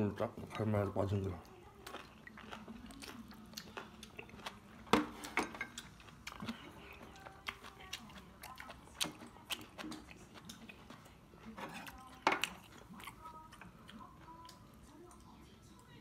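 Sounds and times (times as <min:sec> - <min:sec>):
chewing: 0:00.3 - 0:16.0.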